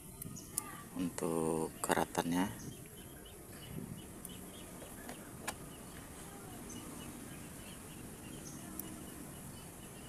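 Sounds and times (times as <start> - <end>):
faint chirping: 0.0 - 10.0.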